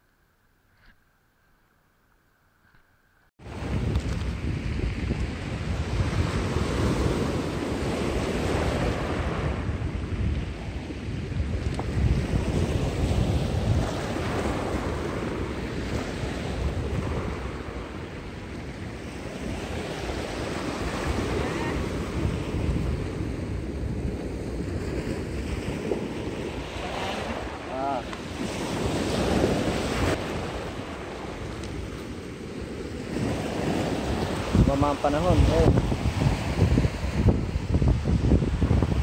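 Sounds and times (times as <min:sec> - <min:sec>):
surf breaking on pebble shore: 0:03.4 - 0:39.0
wind rumbling on microphone: 0:03.4 - 0:39.0.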